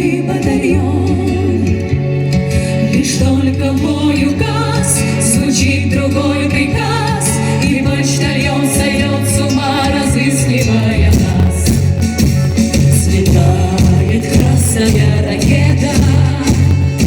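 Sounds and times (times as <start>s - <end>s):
women singing with vibrato: 0.0s - 12.1s, 12.8s - 17.0s
instrumental backing track: 0.0s - 17.0s.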